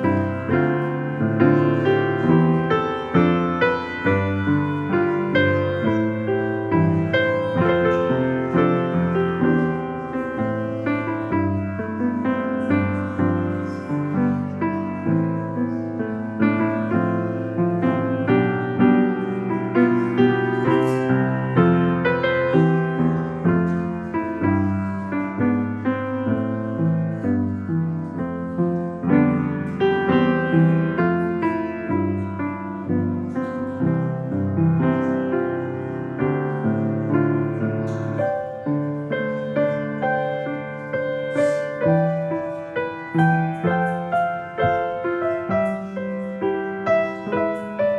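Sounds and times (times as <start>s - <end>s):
piano playing: 0.0s - 47.9s.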